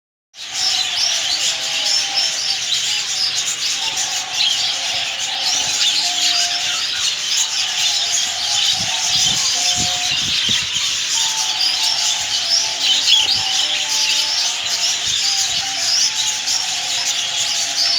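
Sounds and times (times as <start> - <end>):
small birds chirping: 0.4 - 17.9.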